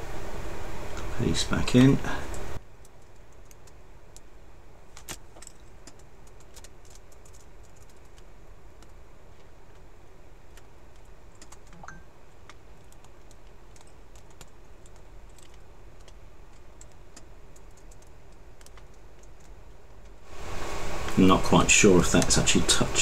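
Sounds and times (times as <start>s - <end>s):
steady low hum and hiss: 0.0s - 23.0s.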